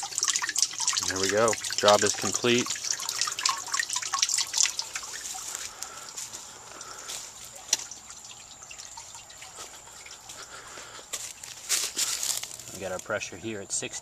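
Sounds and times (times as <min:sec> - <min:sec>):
water dripping and trickling: 0:00.0 - 0:13.9.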